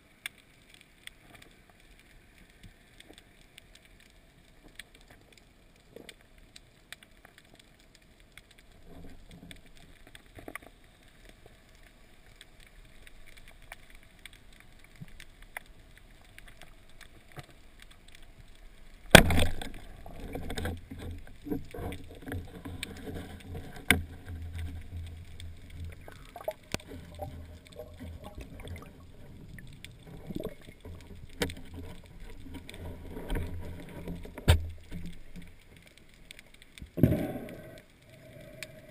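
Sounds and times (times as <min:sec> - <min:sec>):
faint underwater ticking: 0:00.0 - 0:38.9
low underwater hiss: 0:00.0 - 0:38.9.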